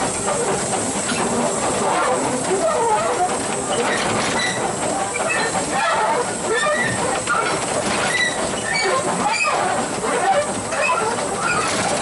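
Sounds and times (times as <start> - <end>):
train wheels clattering: 0.0 - 12.0
high wheel squeaks: 0.3 - 12.0.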